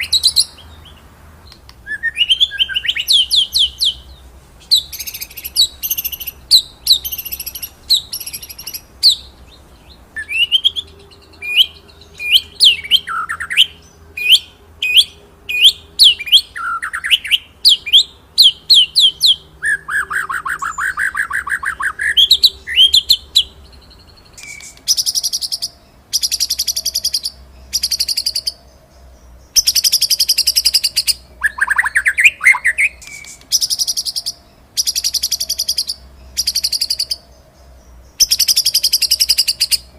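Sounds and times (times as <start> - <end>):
bird buzzy trills: 0.0 - 39.9
bird whistling song: 0.0 - 39.9.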